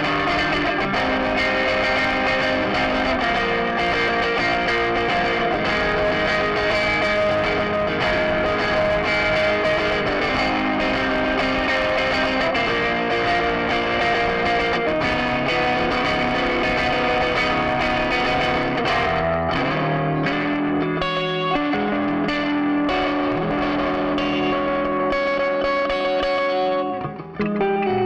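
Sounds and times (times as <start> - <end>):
electric guitar with effects: 0.0 - 28.0.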